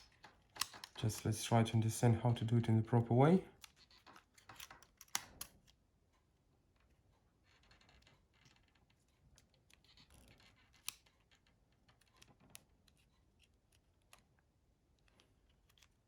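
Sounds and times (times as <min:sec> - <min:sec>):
plastic parts clicking together: 0:00.0 - 0:01.4, 0:03.5 - 0:05.8, 0:06.8 - 0:16.0.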